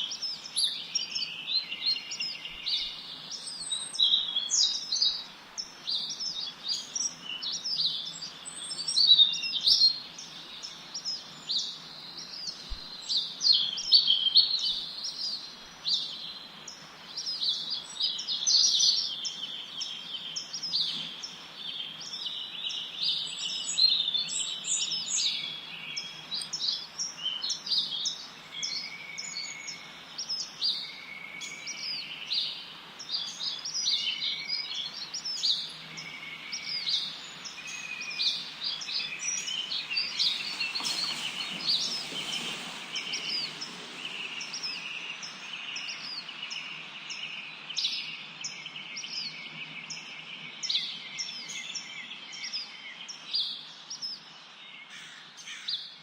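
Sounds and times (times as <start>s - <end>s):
faint steady hiss: 0.0s - 55.7s
small birds chirping and singing: 0.0s - 56.0s.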